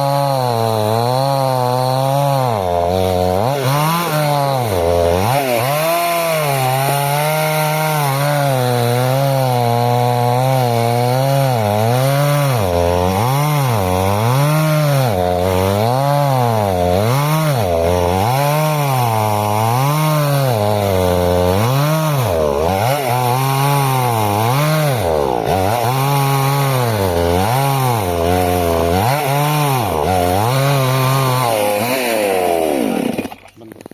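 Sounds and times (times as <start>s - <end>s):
chainsaw cutting log: 0.0s - 33.9s.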